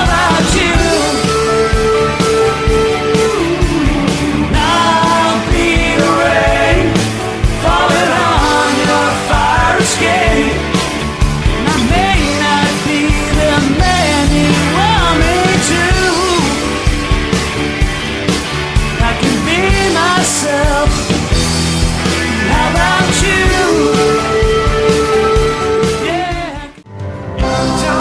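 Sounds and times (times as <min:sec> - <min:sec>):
rock band playing: 0:00.0 - 0:28.0.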